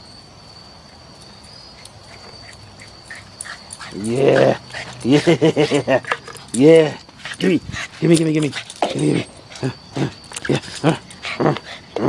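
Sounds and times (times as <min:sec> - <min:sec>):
quiet yard ambience: 0:00.0 - 0:12.0
dog whining: 0:02.0 - 0:12.0.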